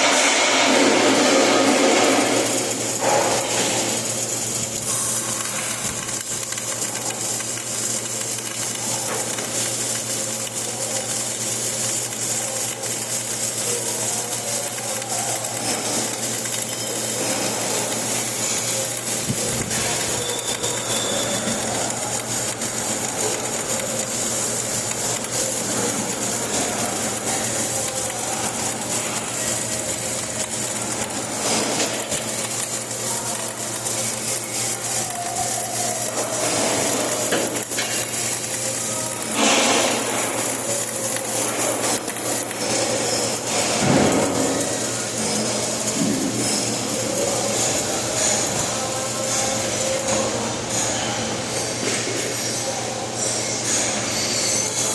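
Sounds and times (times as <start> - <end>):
welding arc crackling hiss: 0.0 - 54.9.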